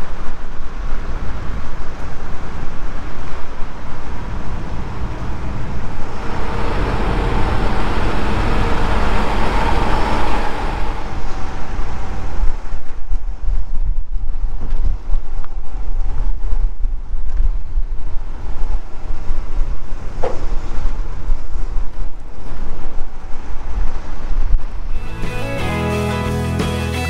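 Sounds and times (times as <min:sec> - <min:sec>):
road noise: 0:00.0 - 0:27.0
vehicle rumble: 0:00.0 - 0:27.0.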